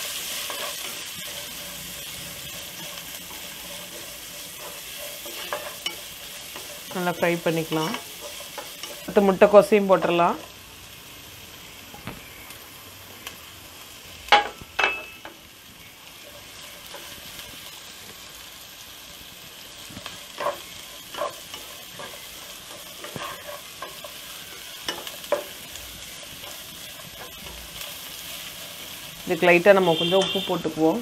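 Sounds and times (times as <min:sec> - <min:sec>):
spatula stirring vegetables: 0:00.0 - 0:31.0
vegetables sizzling in oil: 0:00.0 - 0:31.0.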